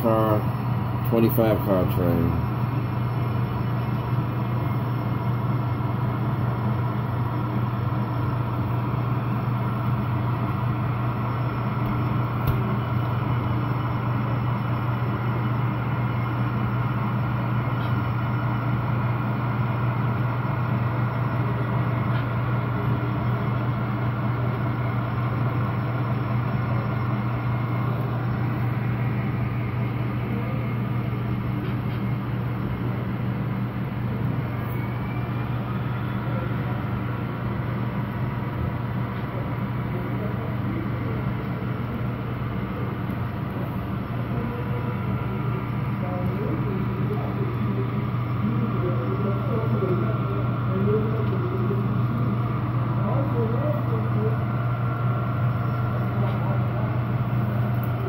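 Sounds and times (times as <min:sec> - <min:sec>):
model locomotive engine drone: 0:00.0 - 0:58.0.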